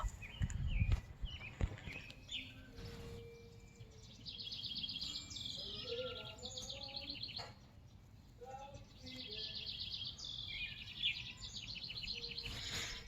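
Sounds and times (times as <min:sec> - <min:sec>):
small bird chirping and trilling: 0:00.0 - 0:13.0.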